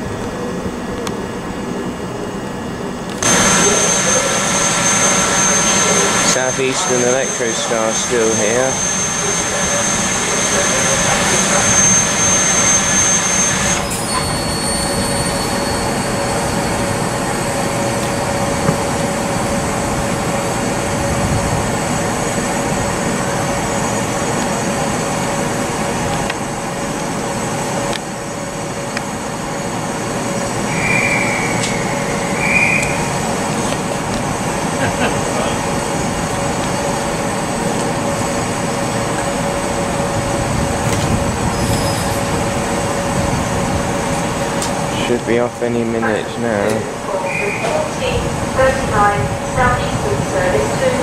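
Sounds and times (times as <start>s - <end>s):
electric train humming: 0.0s - 51.0s
high whine: 0.0s - 51.0s.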